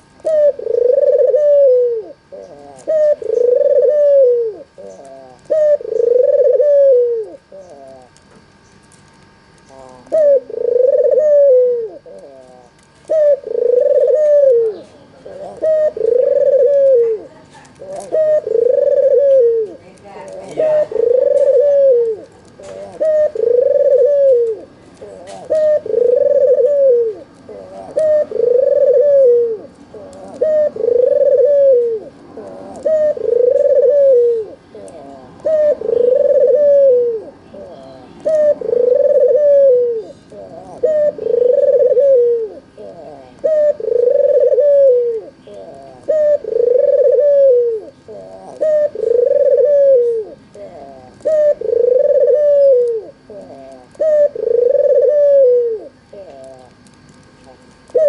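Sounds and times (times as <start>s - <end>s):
dove cooing: 0.0s - 8.5s, 9.6s - 58.0s.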